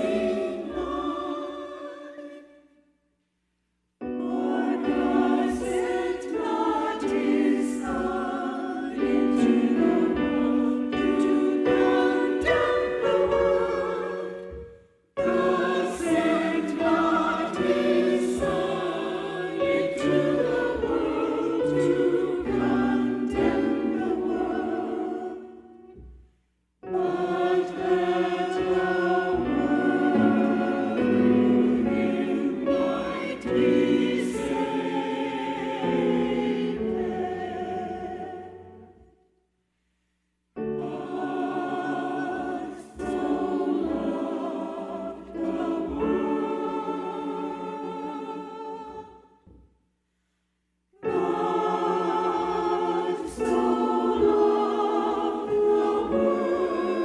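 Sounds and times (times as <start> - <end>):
choir singing: 0.0 - 2.8, 4.0 - 26.0, 26.8 - 39.2, 40.6 - 49.5, 51.0 - 57.0.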